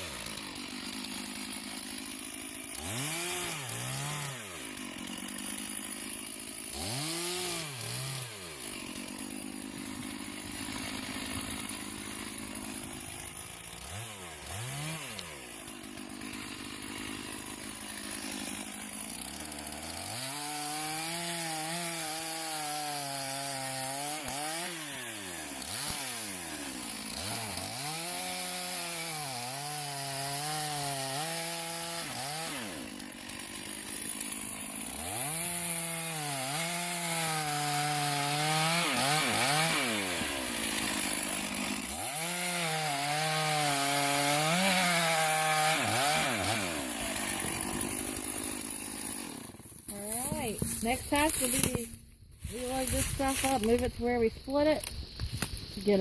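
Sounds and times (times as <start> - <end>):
chainsaw cutting tree trunk: 0.0 - 56.0.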